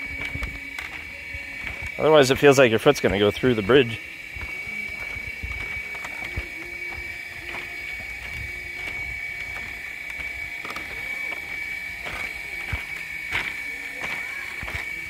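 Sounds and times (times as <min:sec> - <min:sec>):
steady high whine: 0:00.0 - 0:15.0.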